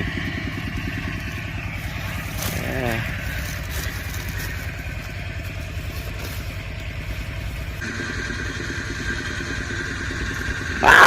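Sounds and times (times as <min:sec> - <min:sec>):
high-pitched whine: 0:00.0 - 0:11.0
motorcycle engine rumble: 0:00.0 - 0:11.0.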